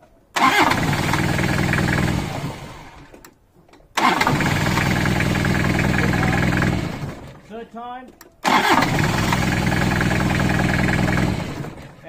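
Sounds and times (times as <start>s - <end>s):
diesel engine starting: 0.3s - 3.2s, 4.0s - 7.5s, 8.4s - 12.0s.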